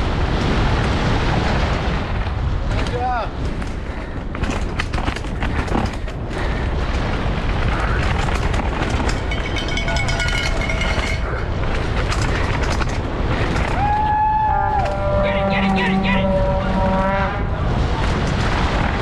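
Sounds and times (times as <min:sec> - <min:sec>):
bike rattling and knocking: 0:00.0 - 0:16.0, 0:17.8 - 0:19.0
wind buffeting microphone: 0:00.0 - 0:19.0.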